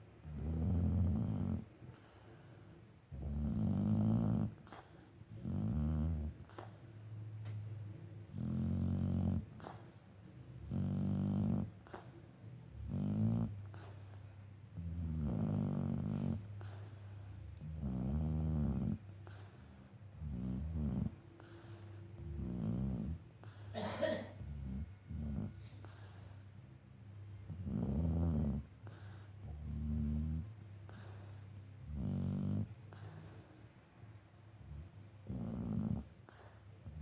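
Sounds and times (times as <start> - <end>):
dog snoring: 0.0 - 6.8, 8.3 - 10.0, 10.6 - 26.5, 27.4 - 33.8, 34.4 - 37.0.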